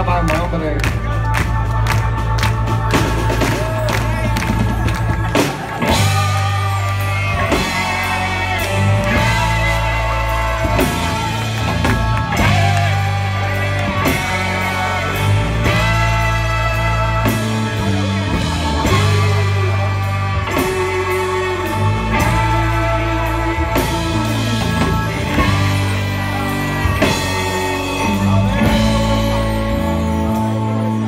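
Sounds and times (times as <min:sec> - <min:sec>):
live rock band: 0:00.0 - 0:31.0.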